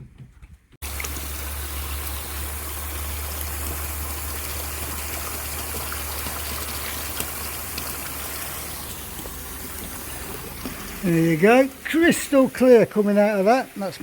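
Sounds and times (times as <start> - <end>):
water gushing into pond: 0.8 - 14.0.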